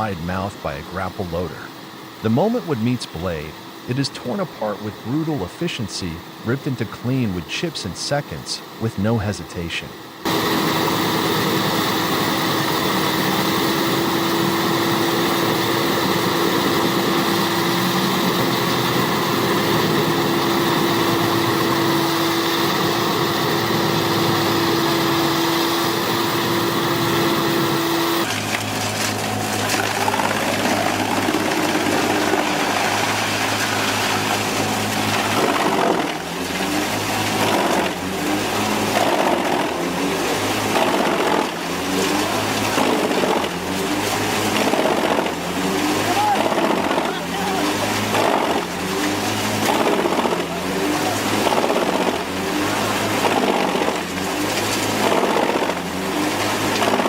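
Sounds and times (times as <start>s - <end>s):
constant hum: 0.0s - 57.0s
wood chipper engine drone: 0.0s - 57.0s.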